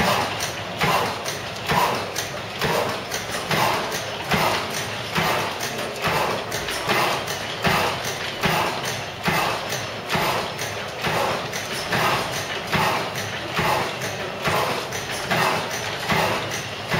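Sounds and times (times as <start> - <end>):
gas engine knocking: 0.0 - 16.9.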